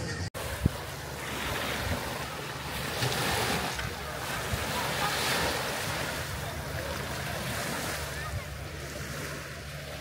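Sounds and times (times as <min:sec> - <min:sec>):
waves washing onto pebbles: 0:00.4 - 0:10.0.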